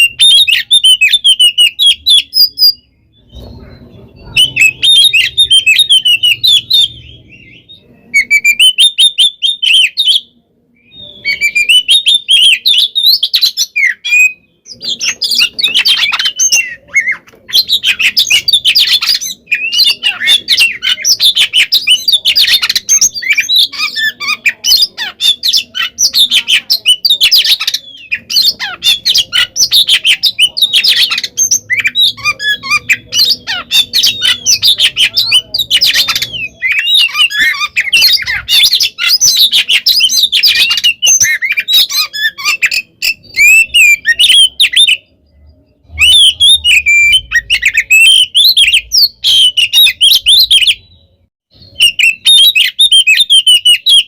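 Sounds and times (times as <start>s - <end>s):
magpie-robin singing: 0.0s - 54.0s.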